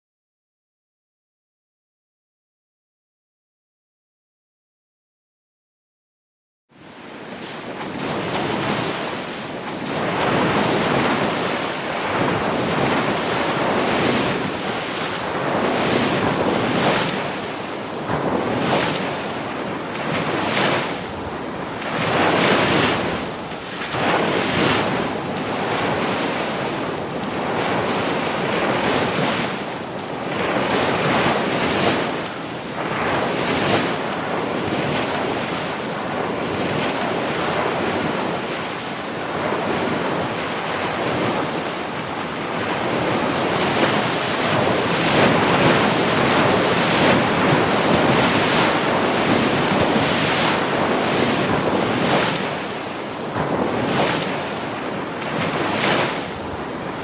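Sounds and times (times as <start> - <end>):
ocean waves breaking: 6.8 - 57.0.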